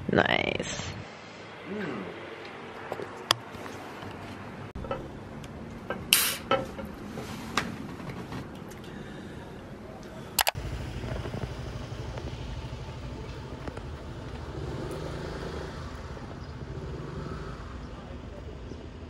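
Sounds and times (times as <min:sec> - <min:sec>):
vehicle engine humming: 0:01.1 - 0:19.0.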